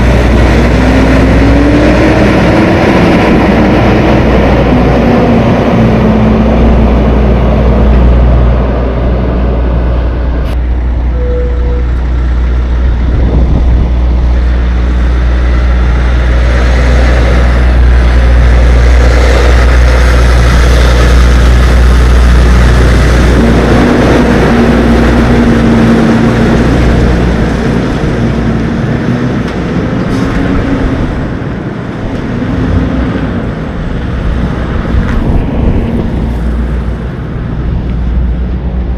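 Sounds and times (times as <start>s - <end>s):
diesel truck engine drone: 0.0s - 38.9s
road noise: 0.0s - 38.9s.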